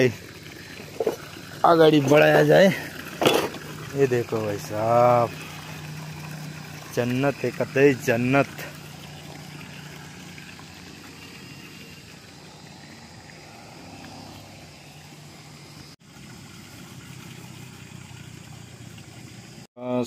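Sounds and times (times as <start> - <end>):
vehicle engine idling: 0.0 - 19.7.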